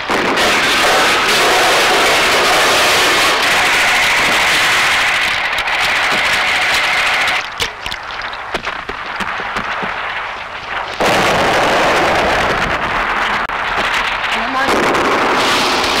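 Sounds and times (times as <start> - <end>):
blasts and gunfire: 0.0 - 16.0
scattered sharp cracks and pops: 0.0 - 16.0.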